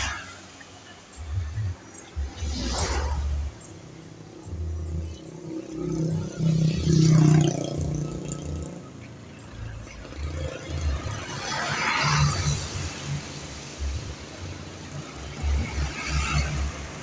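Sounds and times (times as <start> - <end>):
bus engines passing: 0.0 - 17.0.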